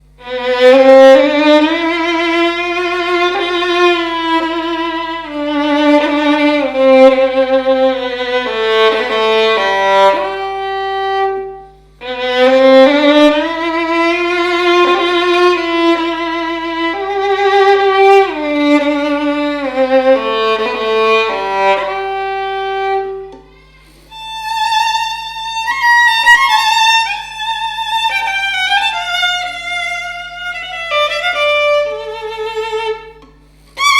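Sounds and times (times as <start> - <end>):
solo violin bowed: 0.0 - 33.9.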